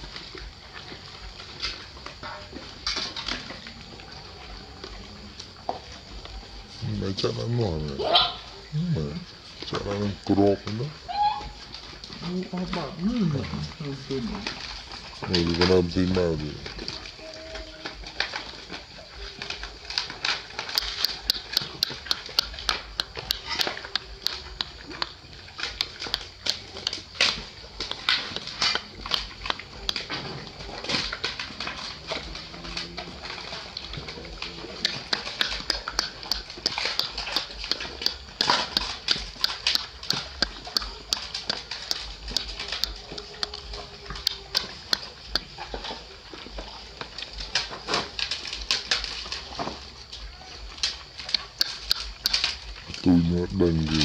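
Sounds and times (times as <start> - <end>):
dogs lapping and chewing: 0.0 - 54.0.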